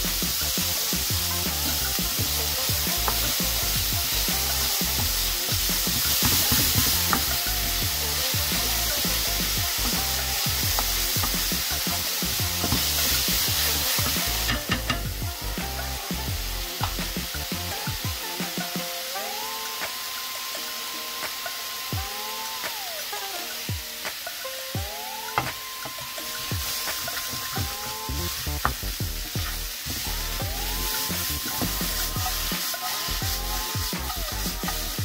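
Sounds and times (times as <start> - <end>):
wooden spatula scraping skillet: 0.0 - 19.1, 25.4 - 35.0
onions sizzling in oil: 0.0 - 35.0.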